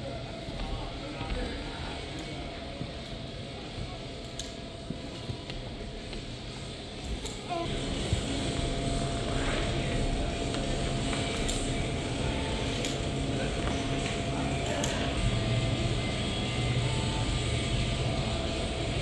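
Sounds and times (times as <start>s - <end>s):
ventilation hum: 0.0s - 19.0s.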